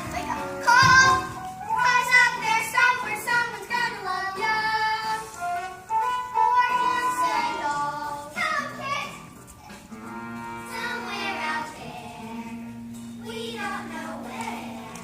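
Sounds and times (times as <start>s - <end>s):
child singing: 0.0s - 5.4s, 6.3s - 9.2s, 10.7s - 12.6s, 13.2s - 15.0s
instrumental accompaniment: 0.0s - 15.0s.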